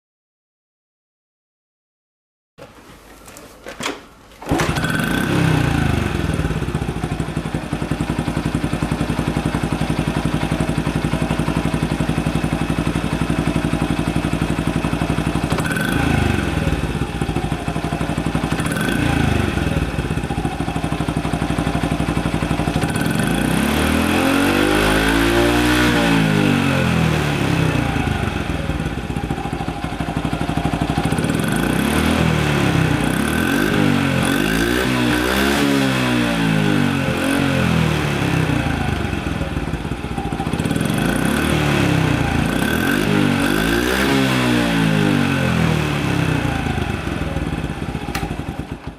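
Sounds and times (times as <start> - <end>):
motorcycle engine starting: 3.8 - 48.9
motorcycle engine revving: 4.5 - 48.9
motorcycle engine idling: 4.7 - 25.0, 26.1 - 35.5, 36.3 - 44.0, 44.7 - 48.9.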